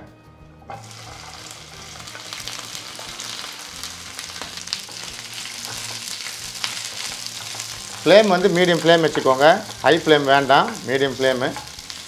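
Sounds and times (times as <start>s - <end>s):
okra sizzling in hot oil: 0.6s - 12.0s.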